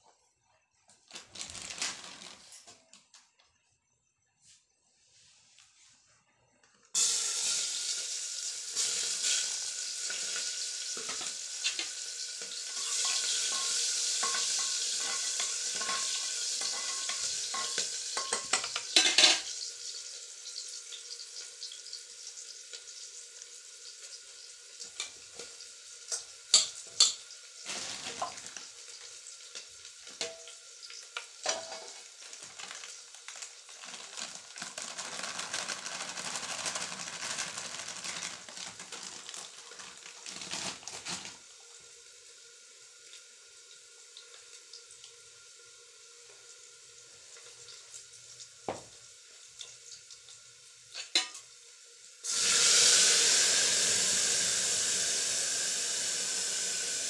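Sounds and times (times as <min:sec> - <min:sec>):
food sizzling in hot oil: 0:07.0 - 0:57.0.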